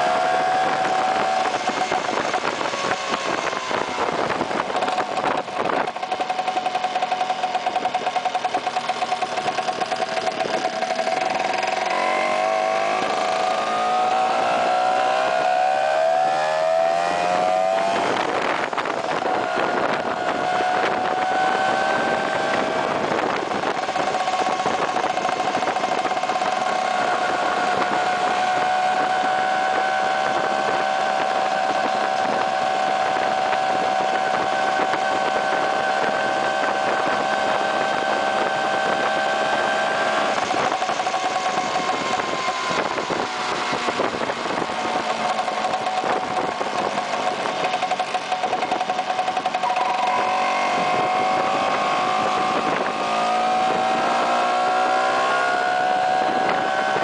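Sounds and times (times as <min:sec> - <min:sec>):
scooter engine accelerating: 0:00.0 - 0:57.0.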